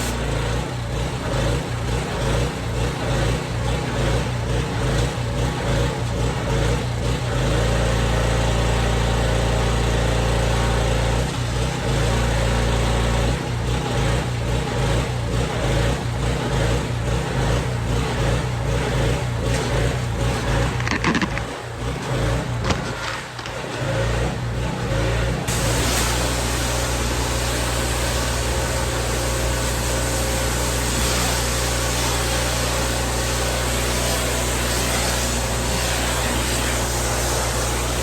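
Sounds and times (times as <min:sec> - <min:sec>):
small gasoline engine running: 0:00.0 - 0:38.0.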